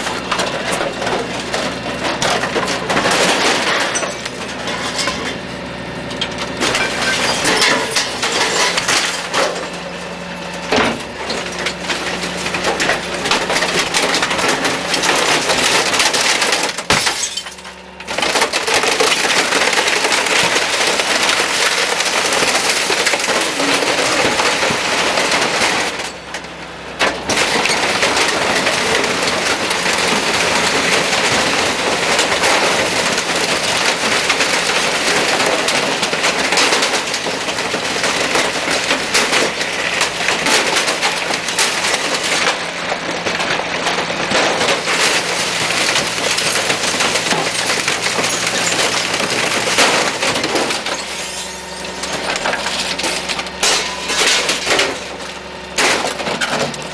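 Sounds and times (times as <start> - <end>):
compactor crushing glass: 0.0 - 56.9
truck engine hum: 0.0 - 56.9.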